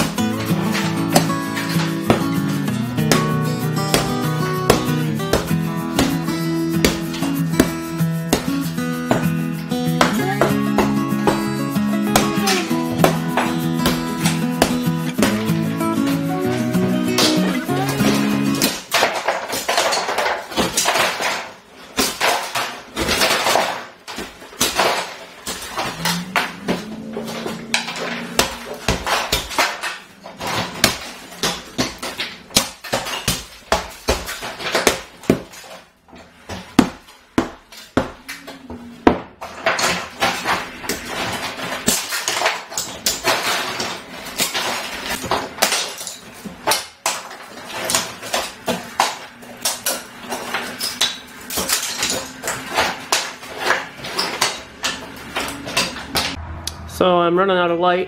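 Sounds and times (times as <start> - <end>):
debris clattering to floor: 0.0 - 56.4
plaster and boards cracking: 0.0 - 56.4.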